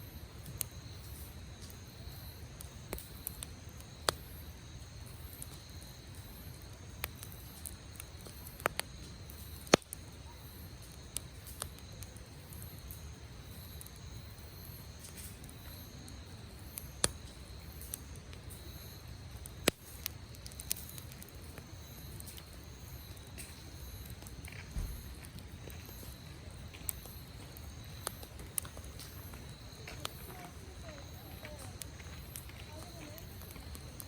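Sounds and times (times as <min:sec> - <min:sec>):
wood campfire crackling: 0:00.0 - 0:34.0.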